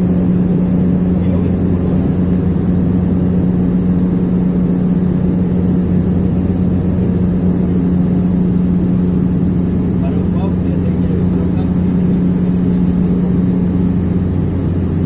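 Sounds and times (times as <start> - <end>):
aircraft engines droning: 0.0 - 15.0
constant low hum: 0.0 - 15.0.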